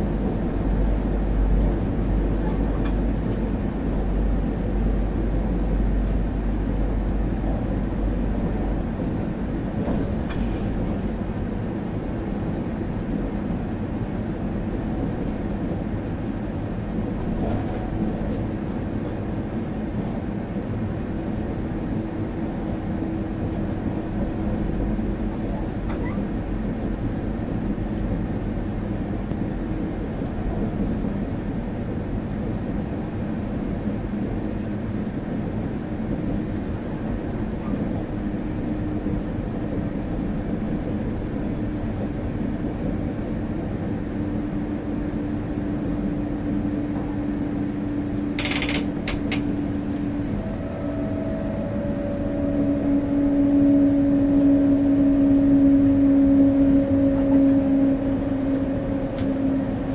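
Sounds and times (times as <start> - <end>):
constant hum: 0.0 - 59.9
train wheels rumbling on rails: 0.0 - 59.9.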